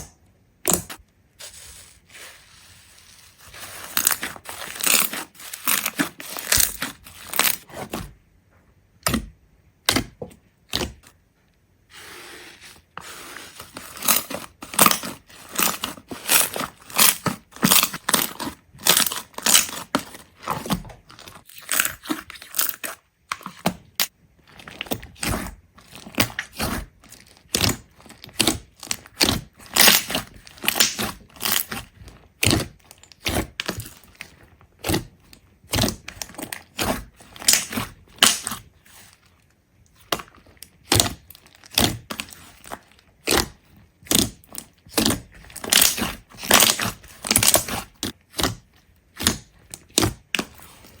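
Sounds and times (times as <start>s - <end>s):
crunching and cracking: 0.0s - 8.2s, 12.7s - 51.0s.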